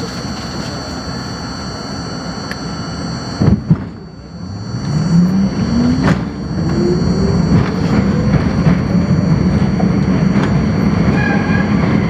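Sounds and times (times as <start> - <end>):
subway train motors whining: 0.0 - 12.0.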